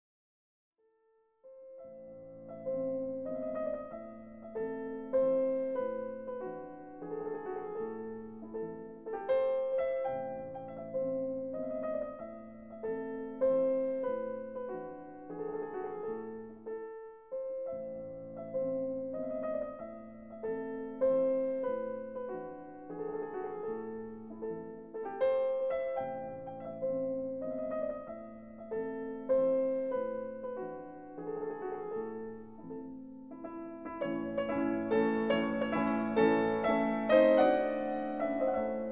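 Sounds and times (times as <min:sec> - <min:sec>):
calm piano music: 0:01.4 - 0:38.9.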